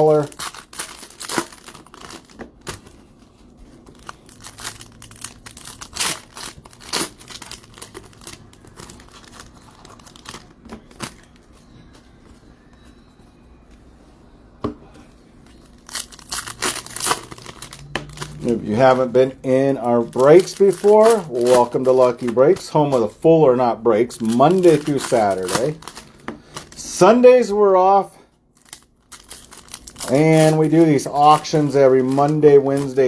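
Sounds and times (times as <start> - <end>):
plastic packaging crinkling: 0.0 - 12.5, 15.4 - 27.5, 28.5 - 33.0.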